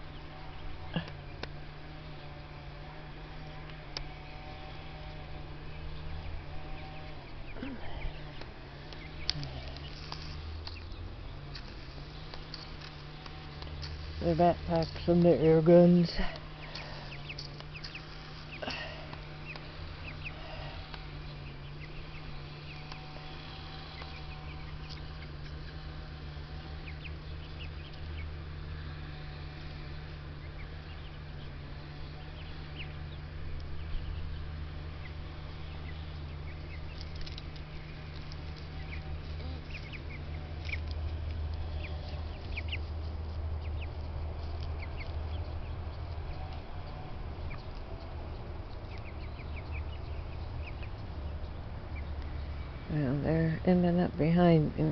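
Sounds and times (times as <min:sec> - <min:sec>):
ducks quacking: 0:00.0 - 0:52.8
small birds chirping: 0:00.0 - 0:54.9
steady low hum: 0:00.0 - 0:54.9.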